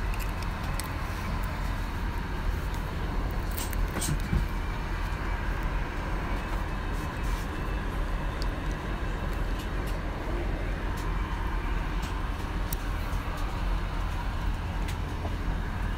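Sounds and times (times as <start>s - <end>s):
airliner cabin rumble: 0.0s - 15.9s.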